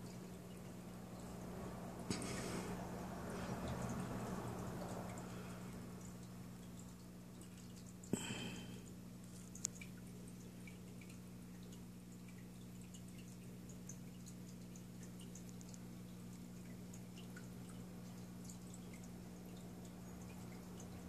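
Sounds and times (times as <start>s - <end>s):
aquarium pump humming: 0.0s - 21.0s
water dripping: 0.0s - 21.0s.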